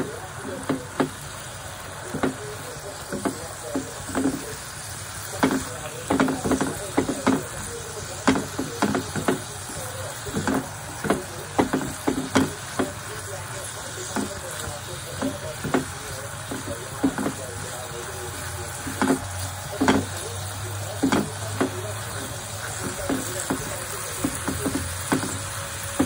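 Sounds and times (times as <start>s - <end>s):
frying sizzle: 0.0s - 26.0s
spatula scraping frying pan: 2.0s - 26.0s.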